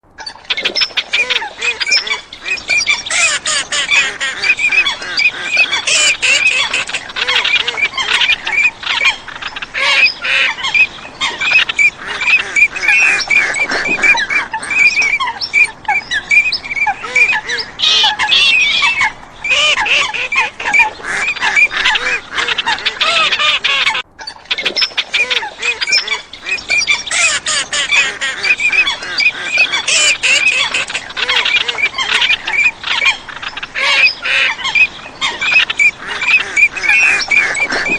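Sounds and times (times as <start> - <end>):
waterfowl calling: 0.1 - 37.9.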